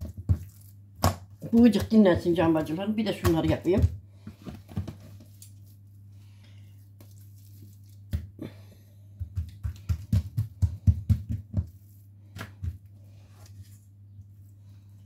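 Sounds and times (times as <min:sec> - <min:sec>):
hands patting dough: 0:00.0 - 0:06.0, 0:06.8 - 0:14.4.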